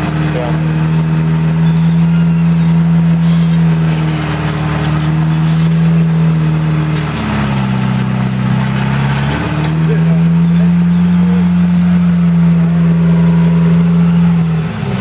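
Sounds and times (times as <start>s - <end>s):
buggy engine running: 0.0s - 15.0s.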